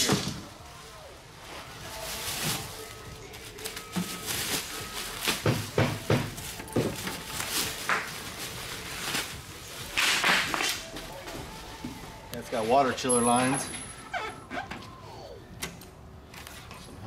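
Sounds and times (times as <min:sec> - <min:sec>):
plastic and bubble wrap crinkling: 0:00.0 - 0:14.7.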